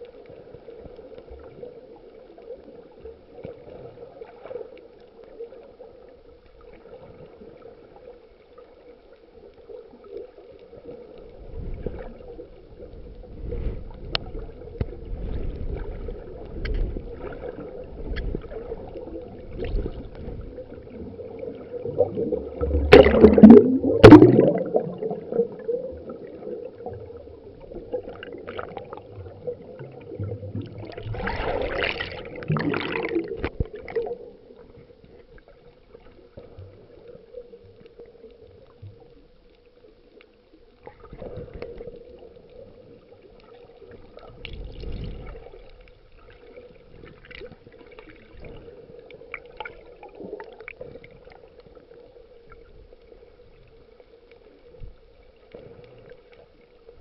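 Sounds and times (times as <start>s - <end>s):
water gurgling and sloshing: 0.0s - 57.0s.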